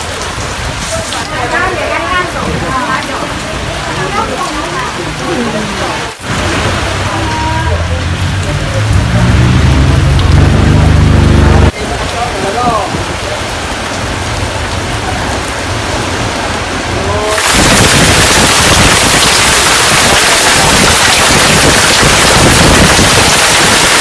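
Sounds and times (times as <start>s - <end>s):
heavy rain: 0.0s - 24.0s
wind: 0.0s - 24.0s.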